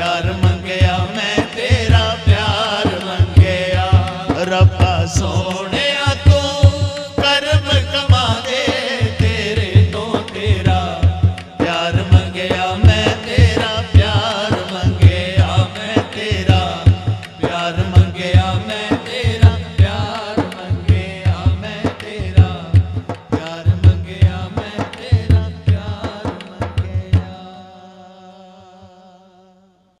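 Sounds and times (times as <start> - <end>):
fast drum beat: 0.0 - 27.4
men singing: 0.0 - 29.1.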